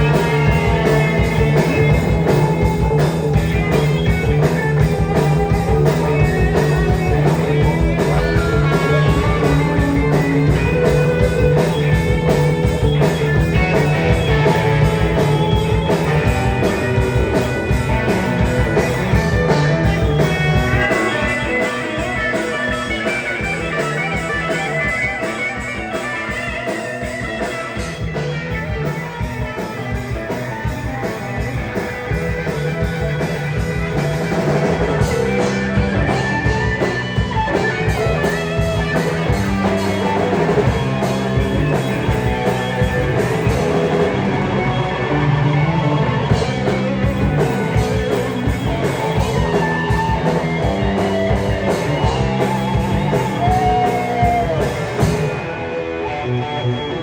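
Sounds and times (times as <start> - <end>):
electric guitar: 0.0 - 57.0
live rock band: 0.0 - 57.0.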